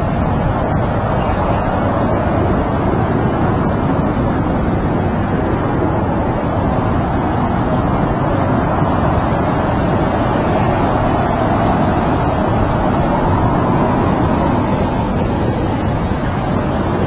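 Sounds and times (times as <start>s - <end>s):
snowstorm wind around a tent: 0.0s - 17.0s.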